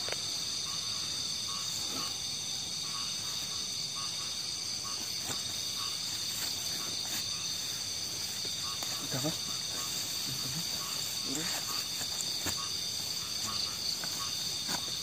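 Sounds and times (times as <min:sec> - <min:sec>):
high-pitched insect drone: 0:00.0 - 0:15.0
short frog calls: 0:00.0 - 0:15.0.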